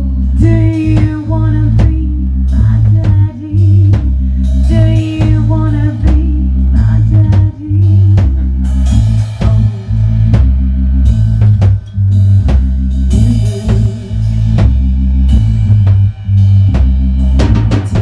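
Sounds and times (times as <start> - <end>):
band playing a song: 0.0 - 18.0
drum kit beat: 0.0 - 18.0
heavy repeating bass line: 0.0 - 18.0.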